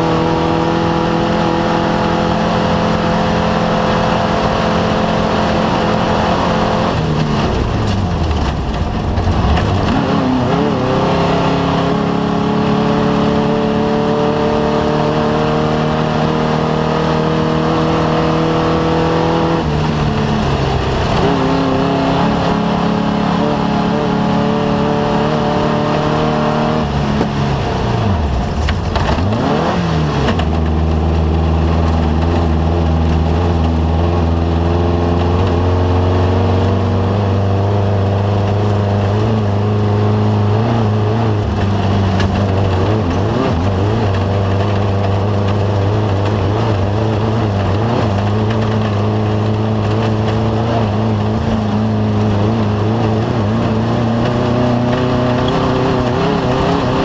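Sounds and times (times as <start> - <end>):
race vehicle engine running hard: 0.0 - 57.0.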